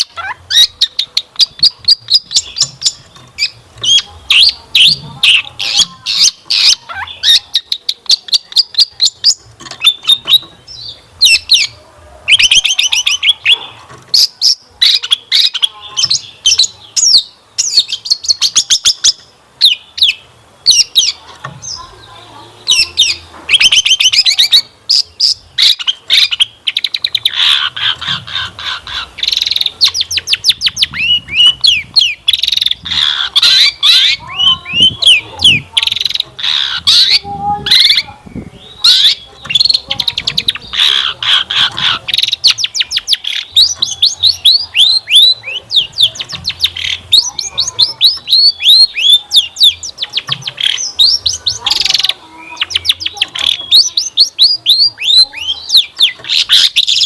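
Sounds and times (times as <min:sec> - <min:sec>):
shrike singing: 0:00.0 - 0:57.0.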